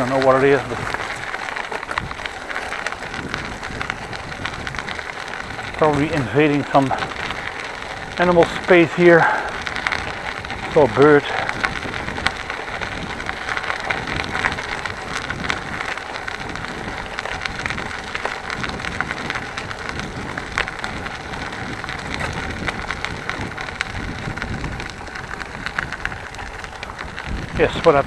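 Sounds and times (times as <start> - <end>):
bicycle tyres crackling on path: 0.0 - 28.0.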